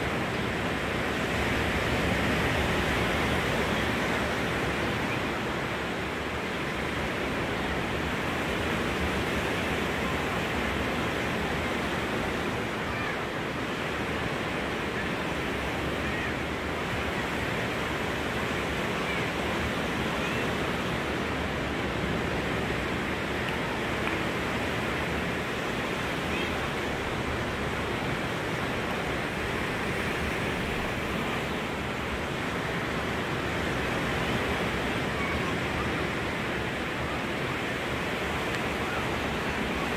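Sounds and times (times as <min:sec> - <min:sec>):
distant surf: 0:00.0 - 0:39.9.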